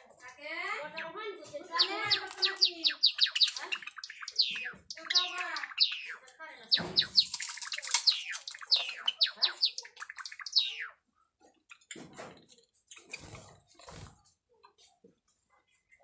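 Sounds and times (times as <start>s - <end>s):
sparrows chirping: 0.0s - 14.1s.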